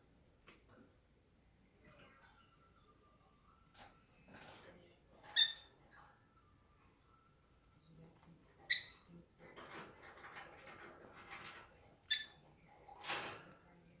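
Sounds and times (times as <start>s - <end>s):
soft scratchy bird chatter: 1.8s - 14.0s.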